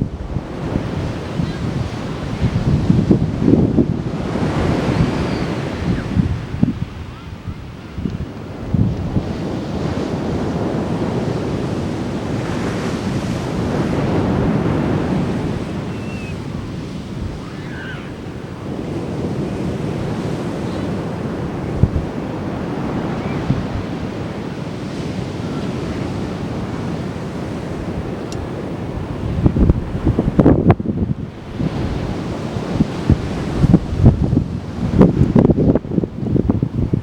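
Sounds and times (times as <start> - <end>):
ocean surf breaking on beach: 0.0 - 37.0
wind buffeting microphone: 0.0 - 37.0.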